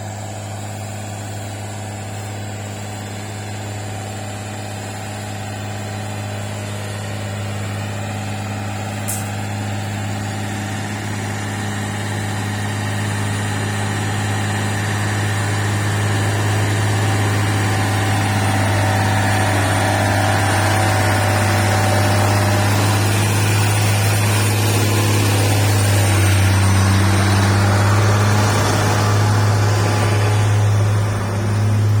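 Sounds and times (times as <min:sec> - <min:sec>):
truck diesel engine drone: 0:00.0 - 0:32.0.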